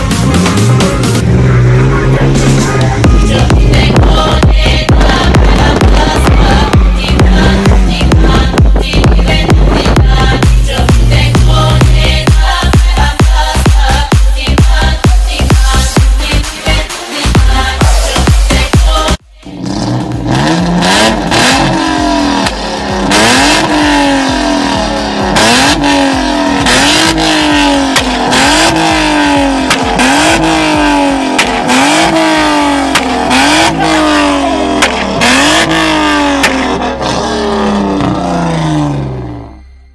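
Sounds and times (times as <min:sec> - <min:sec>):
exhaust popping and crackling: 0:00.0 - 0:16.2, 0:17.3 - 0:39.4
car engine revving: 0:00.0 - 0:39.8.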